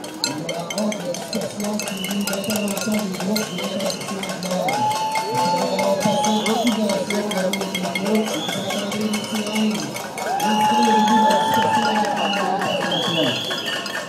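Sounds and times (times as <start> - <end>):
crowd voices: 0.0 - 14.0
long held call: 0.4 - 14.0.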